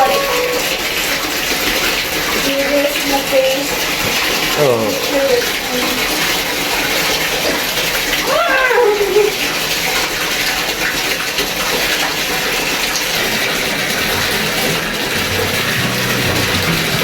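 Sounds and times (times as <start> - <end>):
tap water running into bathtub: 0.0 - 17.0.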